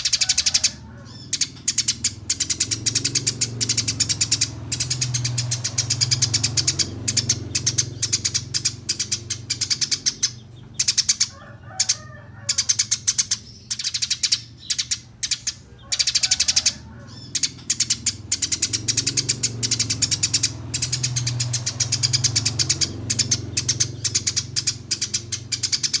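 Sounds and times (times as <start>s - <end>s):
sparrow sharp high chirps: 0.0s - 26.0s.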